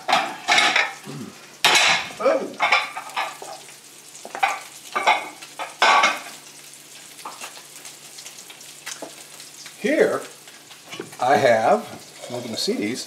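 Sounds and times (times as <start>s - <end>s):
food sizzling in skillet: 0.0s - 13.0s.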